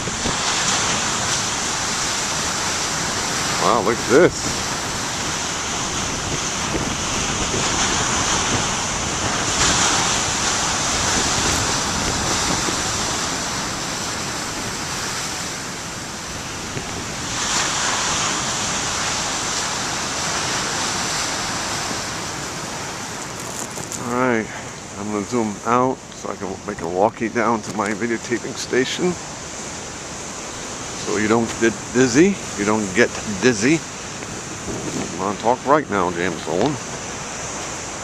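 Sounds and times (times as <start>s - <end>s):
big waves crashing: 0.0s - 38.0s
ocean surf on rocky shore: 0.0s - 38.0s.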